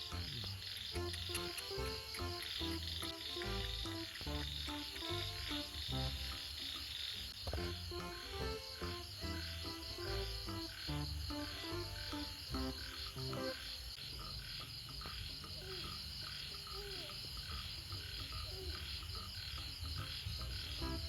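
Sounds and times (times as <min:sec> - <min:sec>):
background music: 0:00.0 - 0:15.2, 0:19.3 - 0:21.0
crickets chirping: 0:00.0 - 0:21.0.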